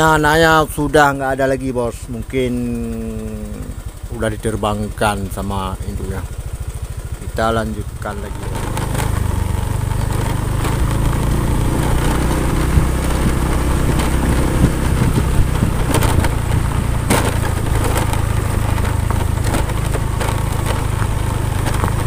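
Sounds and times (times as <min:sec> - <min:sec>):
small motorcycle engine running: 0:00.0 - 0:22.0
knocks and rattles from bumps: 0:03.8 - 0:22.0.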